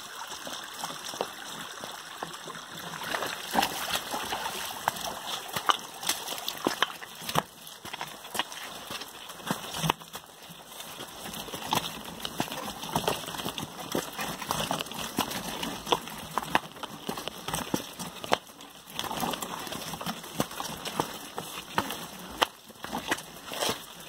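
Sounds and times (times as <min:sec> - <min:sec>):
footsteps on loose stones: 0:00.6 - 0:24.0
bikes rattling over rocks: 0:02.3 - 0:24.0.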